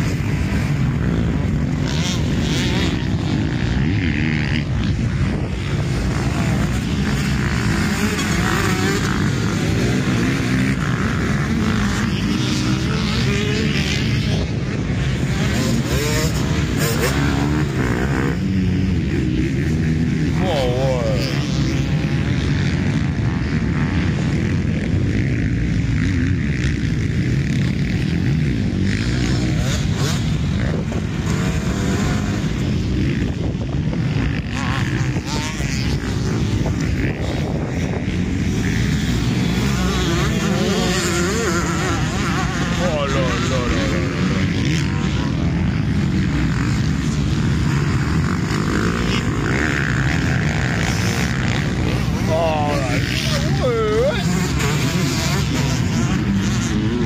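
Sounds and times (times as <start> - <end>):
engine revving up and down: 0.0 - 57.0
motocross bikes racing: 0.0 - 57.0.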